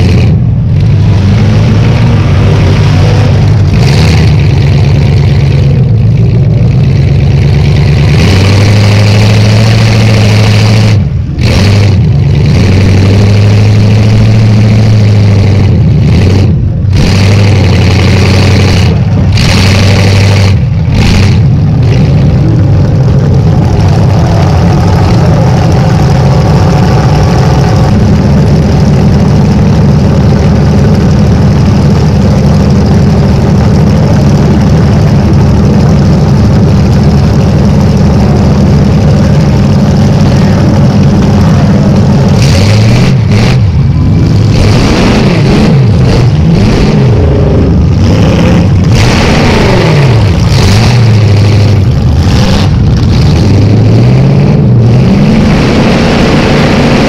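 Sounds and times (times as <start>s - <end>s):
loud open exhaust engine revving: 0.0s - 57.0s.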